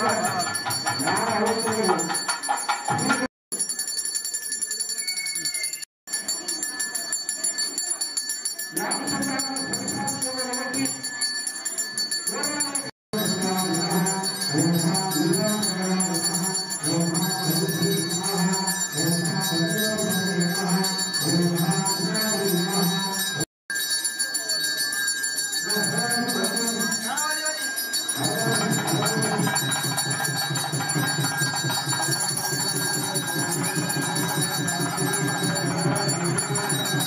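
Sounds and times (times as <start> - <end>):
temple bells ringing: 0.0 - 37.0.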